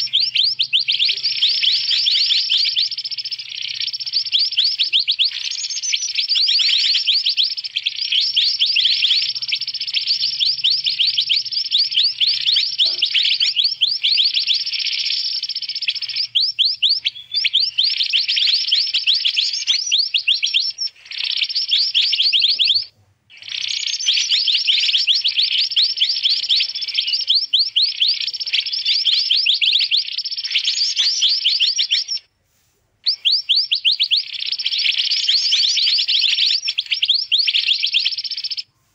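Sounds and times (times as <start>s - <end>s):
birds chirping and twittering: 0.0s - 32.3s, 33.0s - 38.9s.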